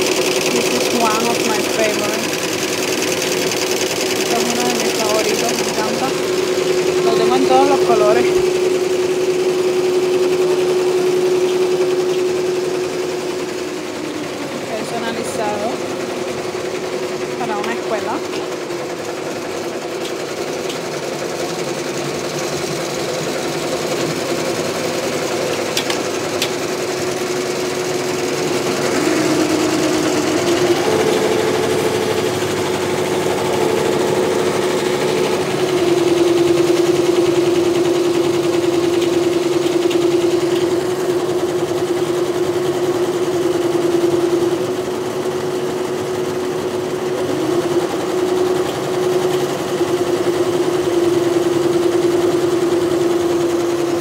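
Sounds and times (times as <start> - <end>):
embroidery machine stitching: 0.0 - 54.0.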